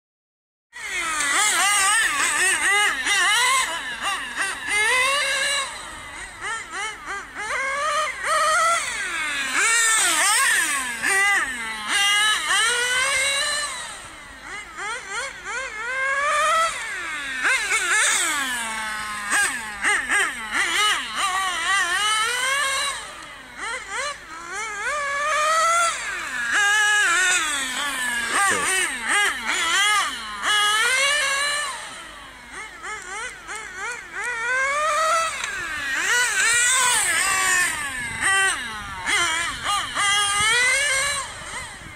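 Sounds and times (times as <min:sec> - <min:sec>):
toy car motor whining: 0:00.8 - 0:41.9.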